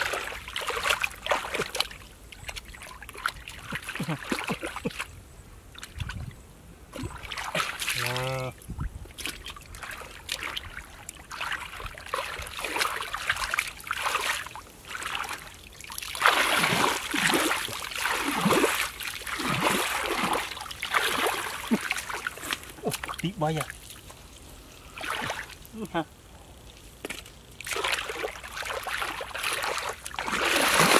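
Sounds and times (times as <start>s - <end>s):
muddy water splashing and sloshing: 0.0s - 30.9s.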